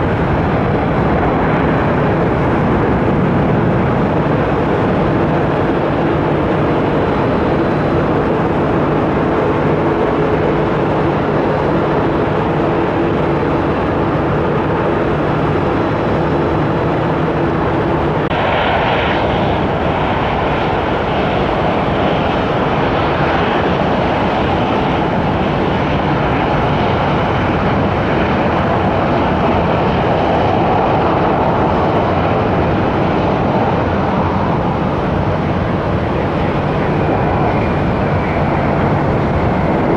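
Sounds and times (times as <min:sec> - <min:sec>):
jet airliner engines: 0:00.0 - 0:39.9.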